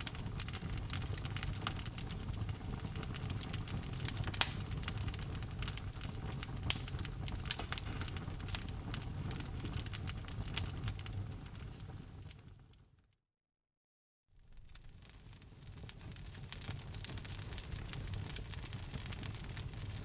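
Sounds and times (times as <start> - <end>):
low rumble of flames: 0.0 - 12.8, 14.4 - 20.0
fire crackling and popping: 0.0 - 12.9, 14.4 - 20.0.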